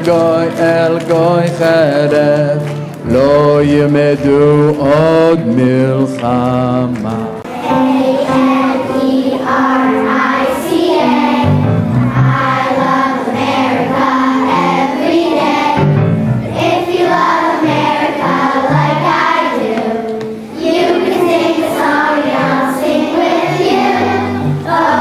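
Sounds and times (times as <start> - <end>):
children's choir singing: 0.0 - 25.0
musical accompaniment: 0.0 - 25.0.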